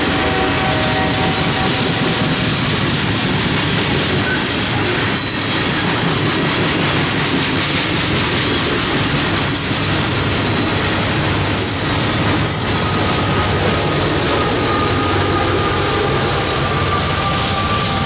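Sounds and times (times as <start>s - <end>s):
train wheels rumbling on rails: 0.0s - 18.0s
wheels clicking over rail joints: 0.0s - 18.0s.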